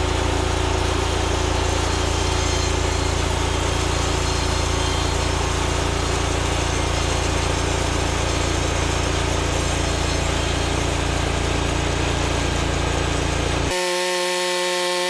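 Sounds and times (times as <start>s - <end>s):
bandsaw mill sawing log: 0.0s - 15.0s.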